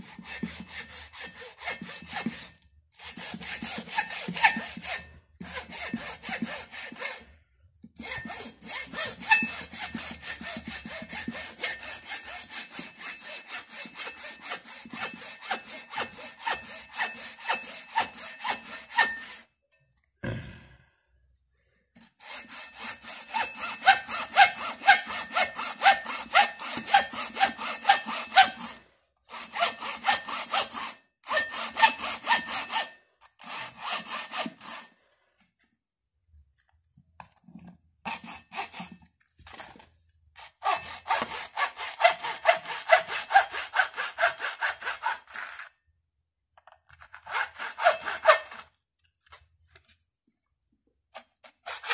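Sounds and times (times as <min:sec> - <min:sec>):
hacksaw cutting plastic: 0:00.0 - 0:19.5, 0:22.0 - 0:35.1, 0:37.2 - 0:45.8, 0:46.6 - 0:50.0, 0:51.1 - 0:51.9.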